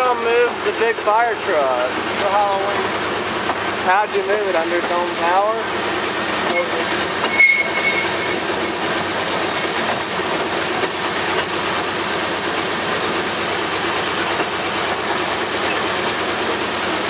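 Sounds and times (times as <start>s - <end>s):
diesel locomotive engine: 0.0s - 17.0s
wheels on rails: 0.0s - 17.0s.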